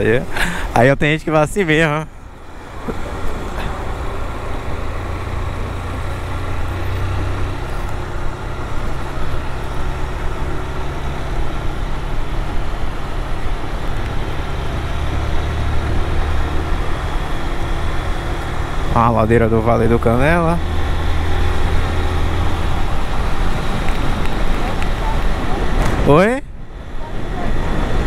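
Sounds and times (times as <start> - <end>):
motorcycle engine humming: 0.0 - 28.0
road noise: 0.0 - 28.0.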